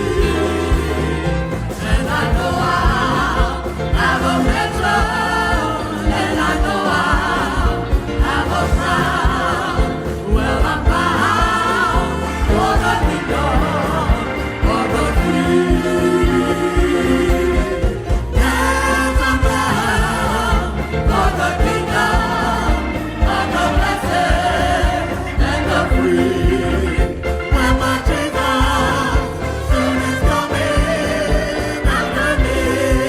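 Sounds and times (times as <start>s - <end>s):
gospel singing with vibrato: 0.0s - 33.0s
instrumental accompaniment: 0.0s - 33.0s.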